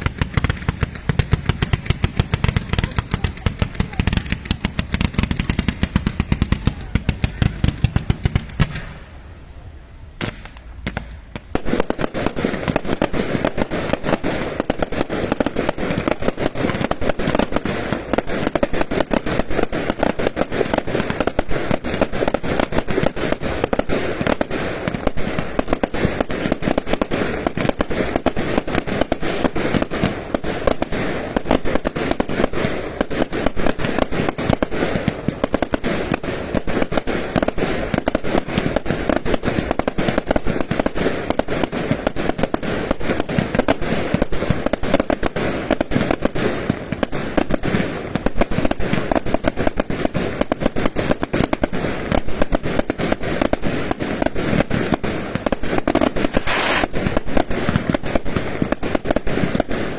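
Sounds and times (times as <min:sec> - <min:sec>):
firecrackers banging: 0:00.0 - 0:59.9.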